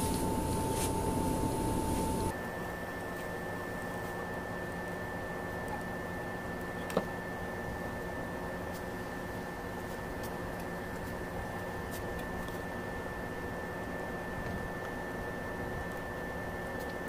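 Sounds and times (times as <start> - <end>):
high whine over low hiss: 0.0 - 17.0.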